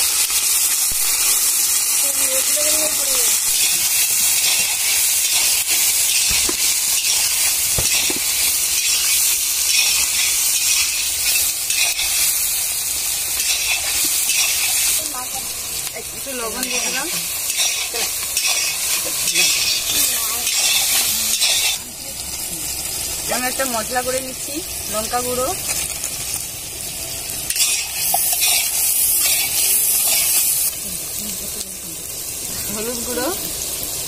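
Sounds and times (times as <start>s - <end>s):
onions sizzling in oil: 0.0s - 34.0s.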